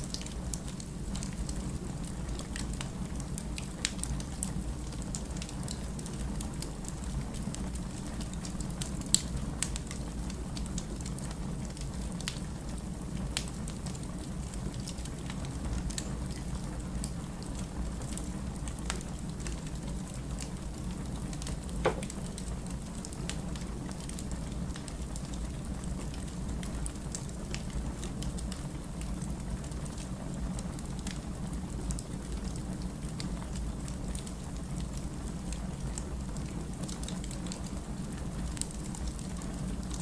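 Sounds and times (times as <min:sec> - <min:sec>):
firewood crackling in fireplace: 0:00.0 - 0:40.0.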